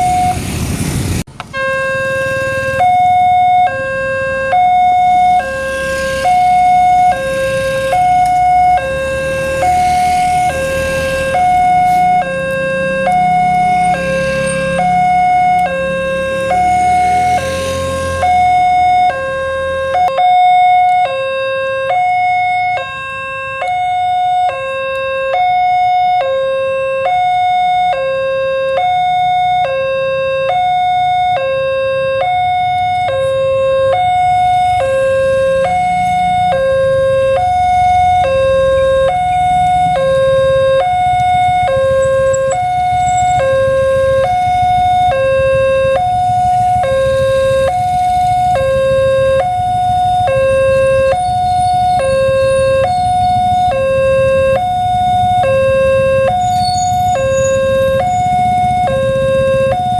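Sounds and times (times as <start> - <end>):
two-tone level crossing siren: 0.0 - 0.4, 1.4 - 59.9.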